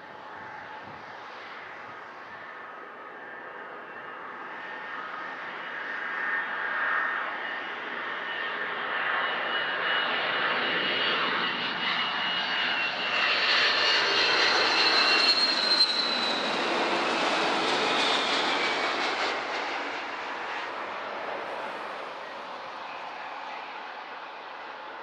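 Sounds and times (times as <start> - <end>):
high jet engine whine: 0.0 - 25.0
jet engines rushing: 0.0 - 25.0.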